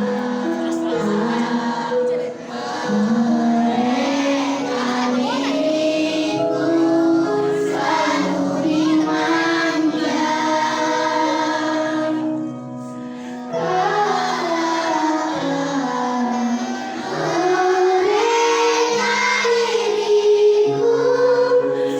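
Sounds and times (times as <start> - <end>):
accompanying music: 0.0 - 21.9
children singing together: 0.0 - 21.9.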